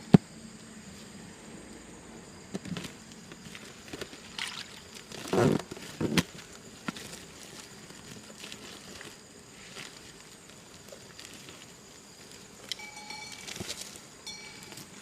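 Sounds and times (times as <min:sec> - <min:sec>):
faint high insect hum: 0:00.0 - 0:15.0
handling knocks and rustles: 0:02.5 - 0:15.0.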